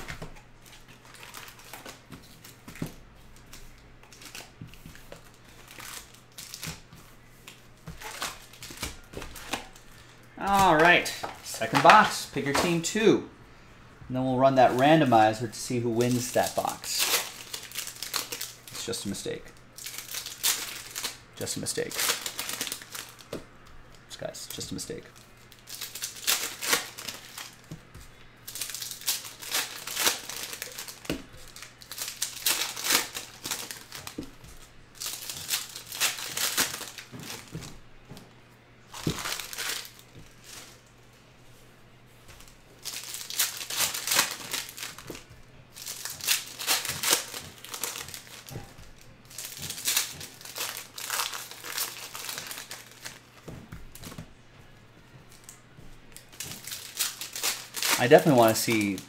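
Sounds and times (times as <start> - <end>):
wrappers tearing and crinkling: 0.0 - 13.0, 14.5 - 23.3, 24.2 - 27.8, 28.4 - 37.8, 38.8 - 40.8, 42.4 - 54.3, 55.3 - 59.0.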